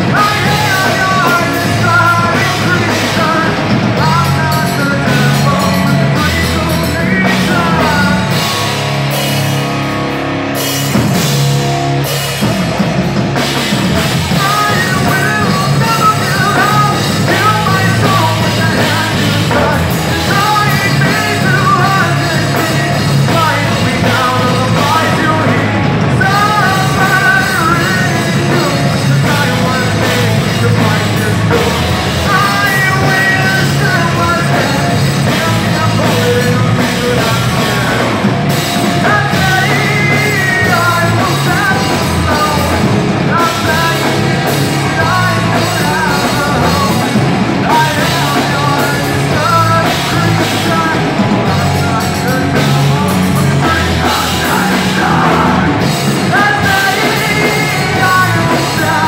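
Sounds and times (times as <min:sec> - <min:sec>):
person singing: 0:00.0 - 0:08.9, 0:13.4 - 0:59.0
bass guitar: 0:00.0 - 0:59.0
drums: 0:00.0 - 0:59.0
electric guitars: 0:00.0 - 0:59.0.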